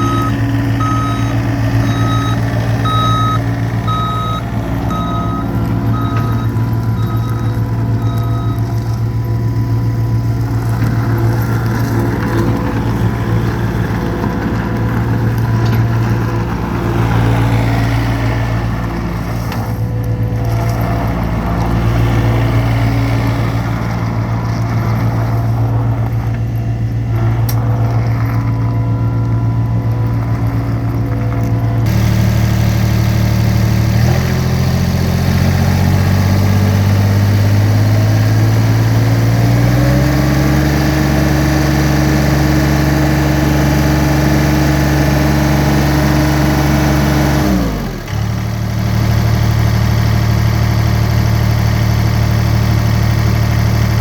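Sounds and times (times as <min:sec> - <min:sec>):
loader engine idling and revving: 0:00.0 - 0:54.0.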